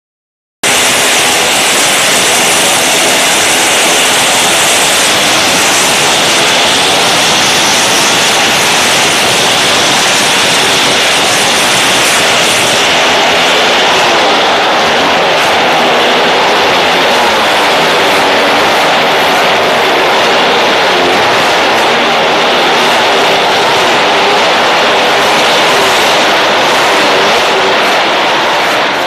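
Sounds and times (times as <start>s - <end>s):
motorcycle engine at high revs: 0.6s - 29.0s.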